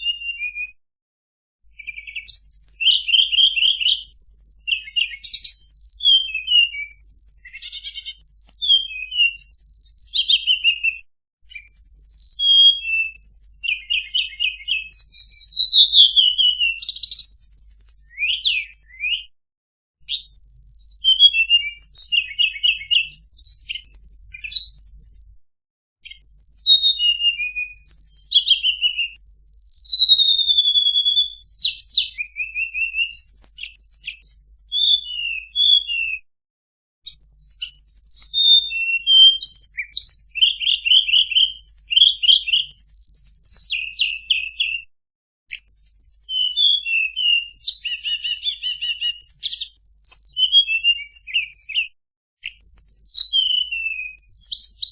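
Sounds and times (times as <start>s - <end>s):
songbird singing chirps and trills: 1.7s - 19.3s, 20.0s - 25.4s, 26.0s - 36.2s, 37.1s - 44.8s, 45.5s - 54.9s.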